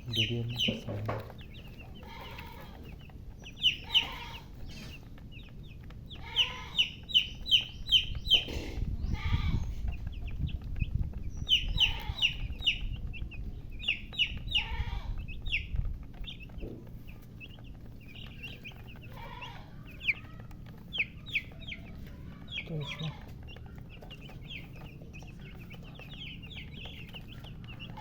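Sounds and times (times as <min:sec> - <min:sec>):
chicks peeping: 0:00.0 - 0:28.0
hen clucking: 0:00.0 - 0:28.0.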